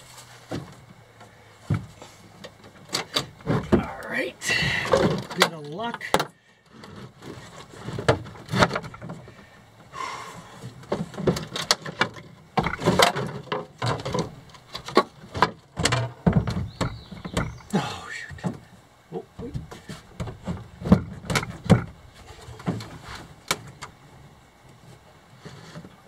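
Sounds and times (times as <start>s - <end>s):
knocks and scrapes in boat hull: 0.0s - 4.0s, 4.7s - 9.5s, 10.5s - 17.7s, 19.4s - 26.0s.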